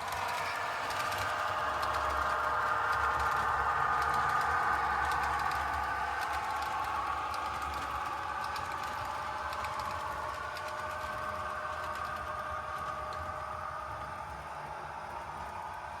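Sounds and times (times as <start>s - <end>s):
model train motor whine: 0.0s - 16.0s.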